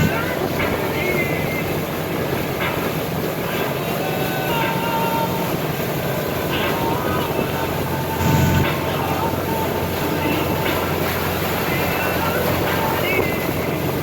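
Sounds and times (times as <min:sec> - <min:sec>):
motorboat engine drone: 0:00.0 - 0:14.0
rushing water: 0:00.0 - 0:14.0.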